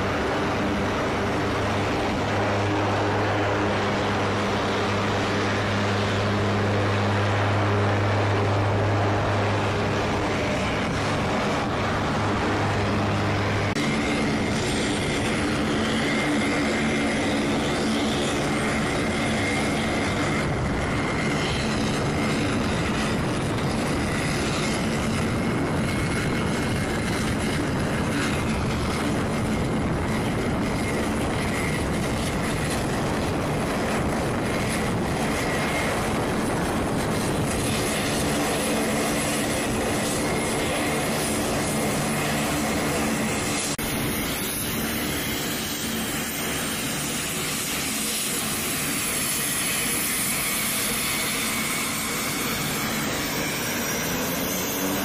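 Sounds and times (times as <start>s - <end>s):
high engine whine: 0.0s - 55.0s
propeller drone: 0.0s - 55.0s.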